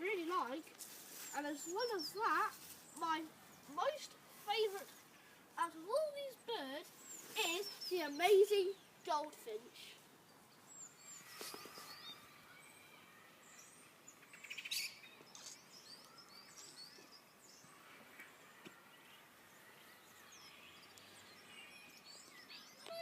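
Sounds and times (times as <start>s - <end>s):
faint songbirds chirping: 0.0s - 23.0s.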